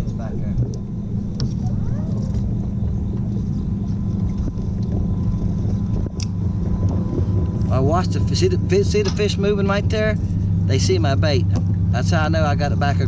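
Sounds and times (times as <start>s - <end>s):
steady low rumble: 0.0s - 13.0s
thin steady whine: 0.0s - 13.0s.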